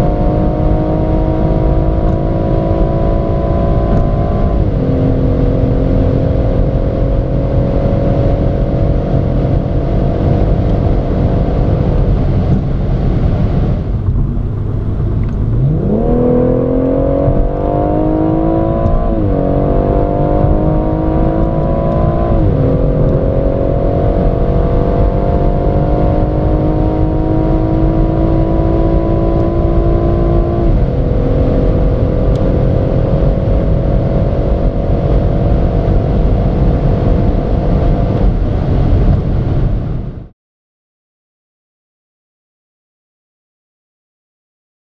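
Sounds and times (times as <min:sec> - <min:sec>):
car engine revving: 0:00.0 - 0:39.0
wind and tyre noise: 0:00.0 - 0:40.3.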